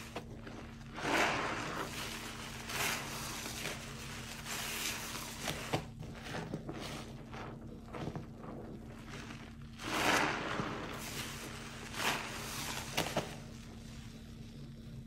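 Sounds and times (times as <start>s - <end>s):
crackling suds: 0.0s - 15.0s
wet sponge squelching: 0.0s - 15.0s.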